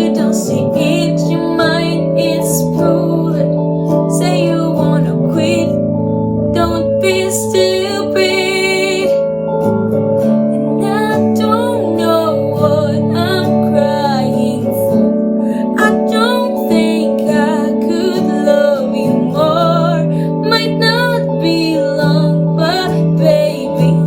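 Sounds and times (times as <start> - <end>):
guitar accompaniment: 0.0 - 24.0.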